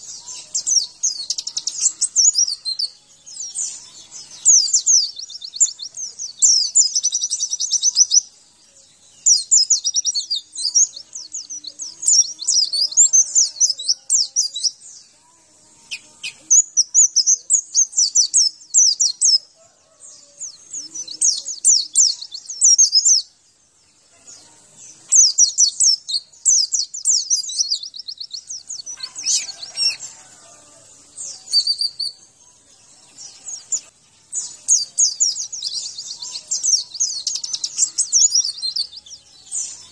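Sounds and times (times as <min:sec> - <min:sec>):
bird twittering and warbling: 0:00.0 - 0:23.3, 0:23.9 - 0:39.9.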